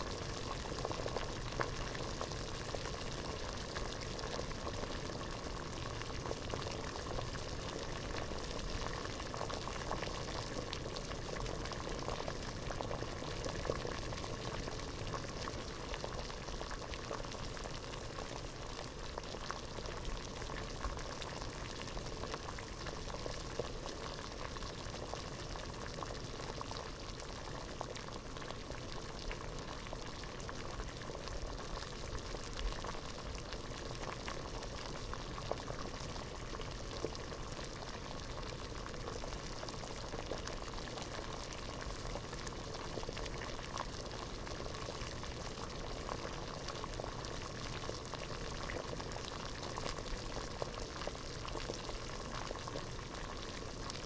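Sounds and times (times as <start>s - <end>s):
water boiling in a pot: 0.0s - 54.0s.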